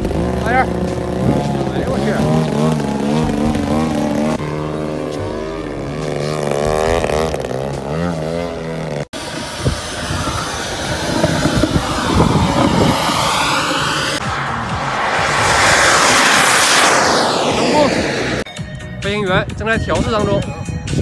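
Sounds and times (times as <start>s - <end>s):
model airplane engine: 0.0s - 18.4s
rough noisy engine sound: 0.0s - 18.5s.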